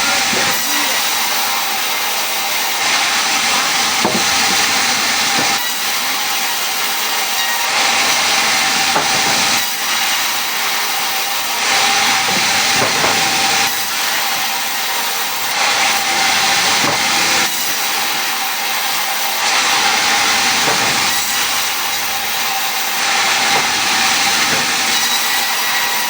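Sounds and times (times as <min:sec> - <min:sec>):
power saw cutting wood: 0:00.0 - 0:26.0.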